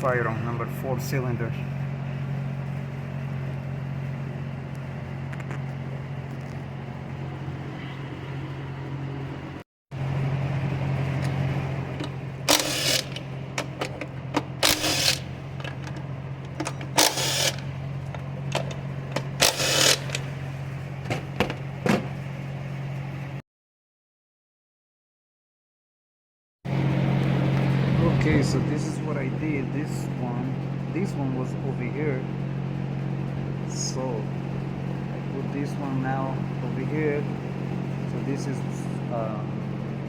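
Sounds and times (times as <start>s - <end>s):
low mechanical hum: 0.0s - 23.4s, 26.7s - 40.0s.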